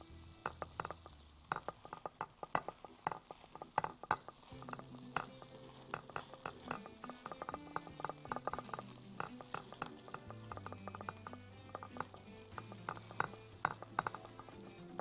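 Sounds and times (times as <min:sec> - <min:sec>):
plastic spoon tapping on plate: 0:00.4 - 0:15.0.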